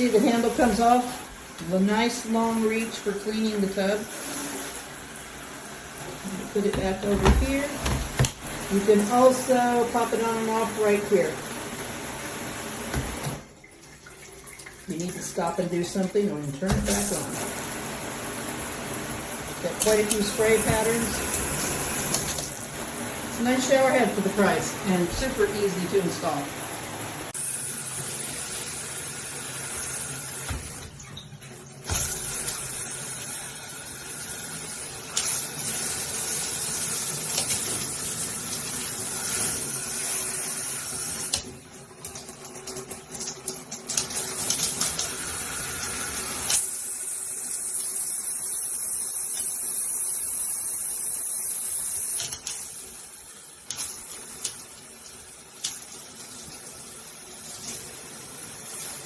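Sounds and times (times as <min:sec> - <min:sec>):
shower head spraying water: 0:00.0 - 0:13.4, 0:14.9 - 0:30.8, 0:31.9 - 0:41.5, 0:42.2 - 0:59.0.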